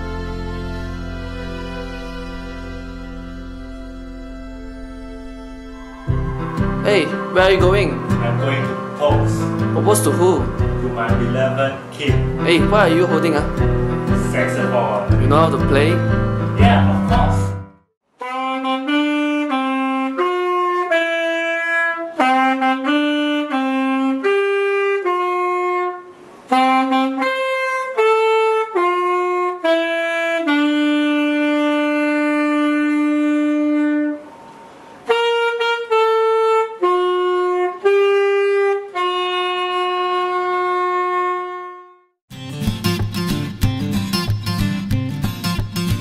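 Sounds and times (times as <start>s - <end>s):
alto saxophone solo melody: 0.0s - 42.2s.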